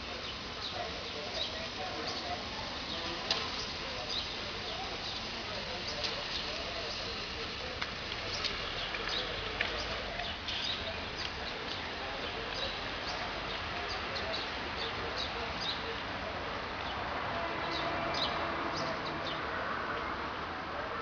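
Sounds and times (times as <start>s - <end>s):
small birds chirping: 0.0s - 19.6s
city background hum: 0.0s - 21.0s.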